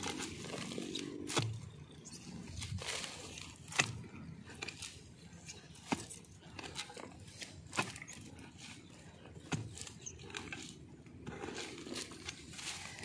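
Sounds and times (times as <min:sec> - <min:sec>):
scraping in dry grass and soil: 0:00.0 - 0:13.0.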